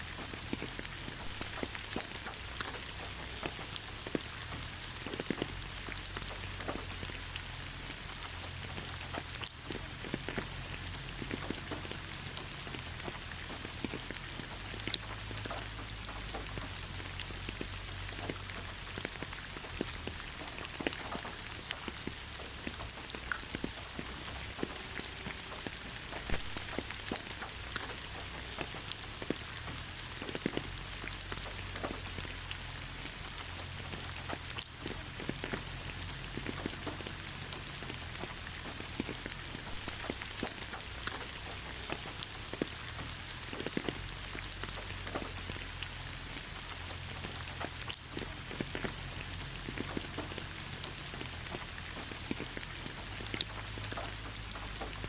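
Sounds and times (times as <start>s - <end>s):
raindrops ticking: 0.0s - 55.0s
steady rainfall: 0.0s - 55.0s.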